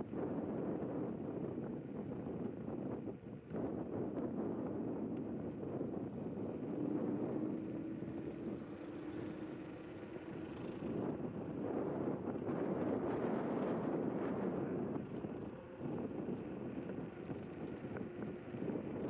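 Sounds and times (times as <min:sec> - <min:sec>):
wind rushing over microphone: 0:00.0 - 0:19.0
electric scooter riding noise: 0:00.1 - 0:19.0.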